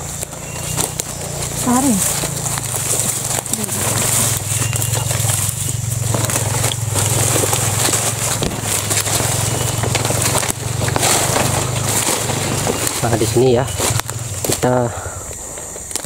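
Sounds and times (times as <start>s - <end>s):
leaves and twigs rustling: 0.0s - 16.0s.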